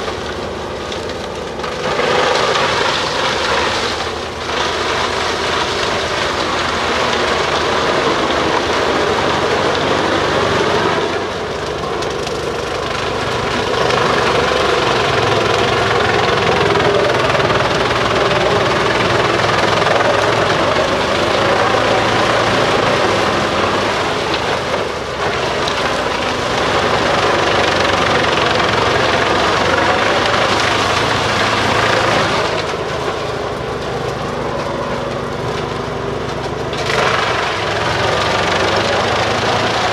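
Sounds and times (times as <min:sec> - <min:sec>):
chipper grinding rush: 0:00.0 - 0:39.9
engine drone: 0:00.0 - 0:39.9.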